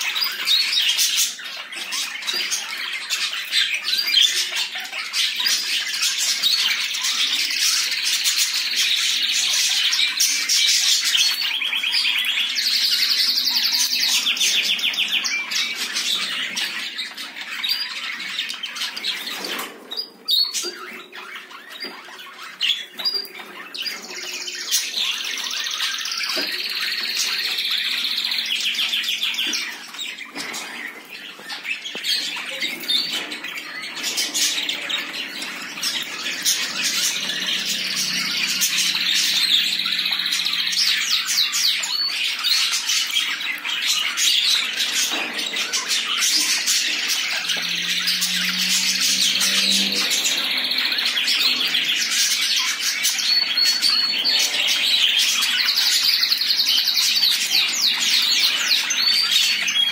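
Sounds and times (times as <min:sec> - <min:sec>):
cockatiels and budgerigars chirping: 0:00.0 - 0:59.9.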